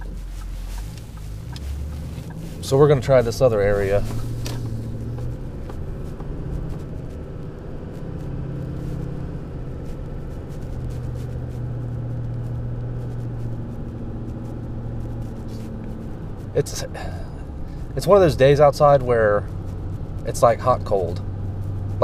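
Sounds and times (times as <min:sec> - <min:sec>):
truck engine and road noise: 0:00.0 - 0:22.0.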